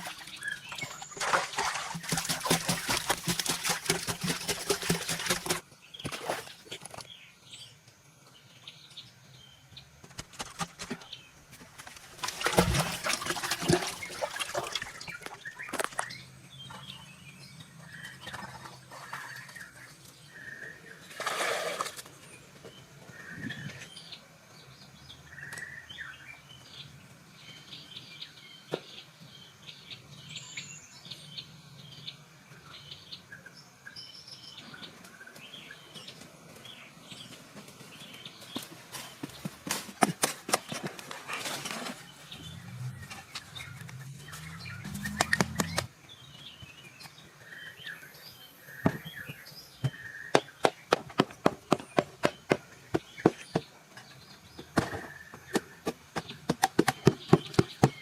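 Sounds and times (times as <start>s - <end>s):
birds chirping: 0.0s - 7.8s, 8.4s - 21.2s, 22.2s - 58.0s.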